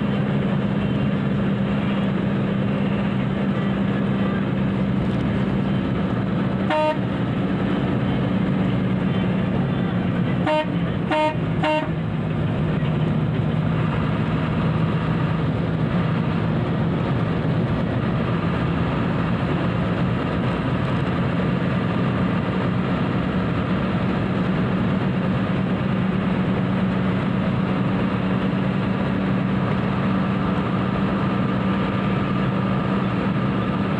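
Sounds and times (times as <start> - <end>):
road noise: 0.0 - 33.9
vehicle engine drone: 0.0 - 33.9.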